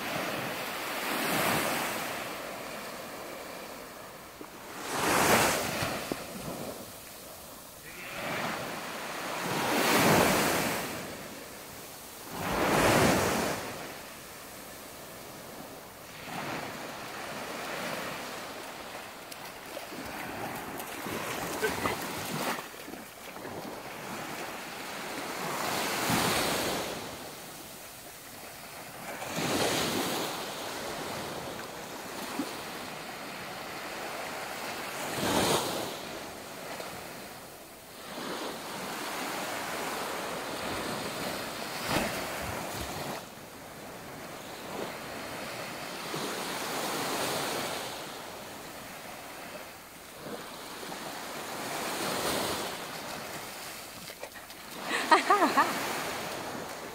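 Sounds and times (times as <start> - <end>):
waves breaking on sandy shore: 0.0 - 56.9.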